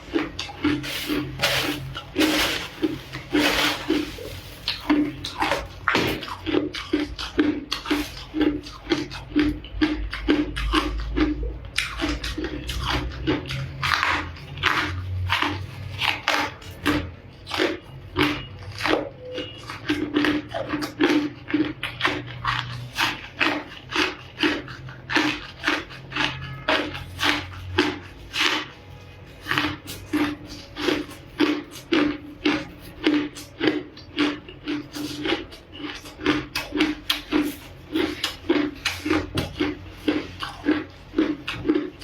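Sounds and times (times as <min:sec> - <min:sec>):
ice being chewed: 0:00.0 - 0:42.0.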